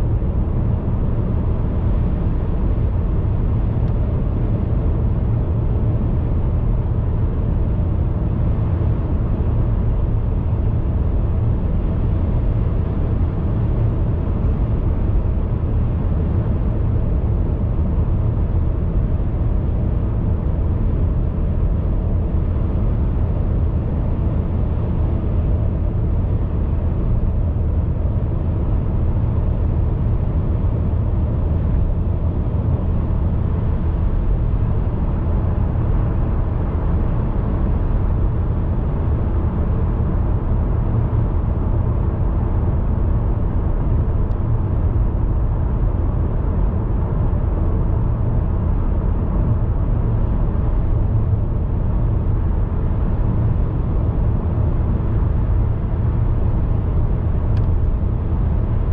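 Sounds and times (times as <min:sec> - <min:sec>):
car driving road noise: 0:00.0 - 0:58.9.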